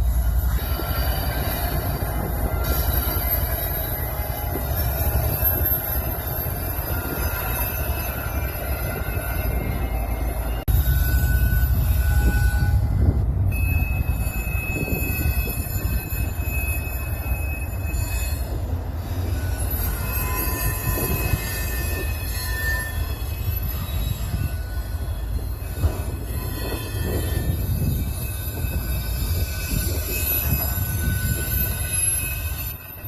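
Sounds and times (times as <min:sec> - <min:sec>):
train low rumble: 0:00.0 - 0:33.0
train wheels squealing: 0:00.0 - 0:33.0.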